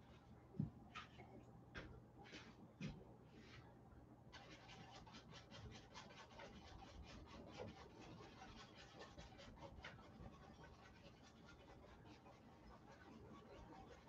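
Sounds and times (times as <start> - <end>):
brush dabbing paint on canvas: 0.0 - 14.0.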